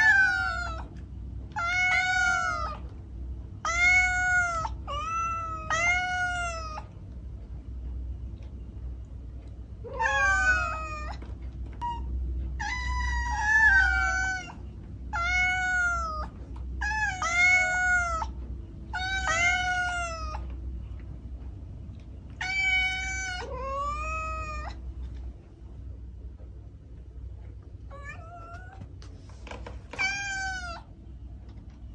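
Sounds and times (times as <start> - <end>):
low steady hum: 0.0 - 31.9.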